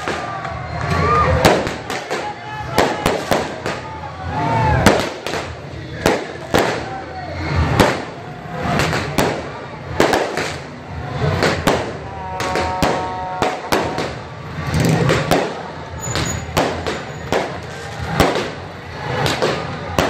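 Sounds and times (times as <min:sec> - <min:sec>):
firecrackers banging: 0:00.0 - 0:20.0
street noise: 0:00.0 - 0:20.0.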